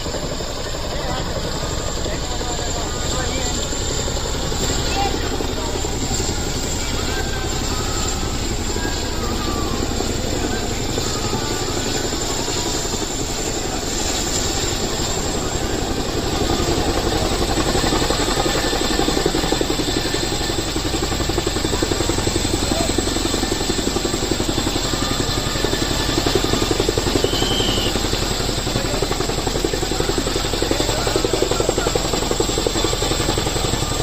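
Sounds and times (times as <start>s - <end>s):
helicopter rotor beat: 0.0s - 34.0s.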